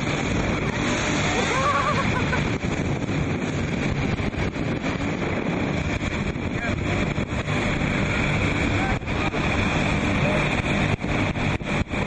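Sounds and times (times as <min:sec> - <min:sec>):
boat engine noise: 0:00.0 - 0:12.0
water rushing: 0:00.0 - 0:12.0
wind buffeting microphone: 0:00.0 - 0:12.0.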